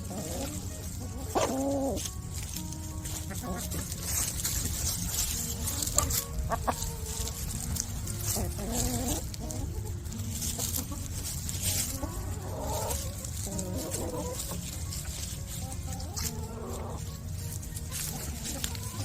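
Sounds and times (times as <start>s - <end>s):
hens clucking: 0.0s - 19.0s
pecking and scratching: 0.0s - 19.0s.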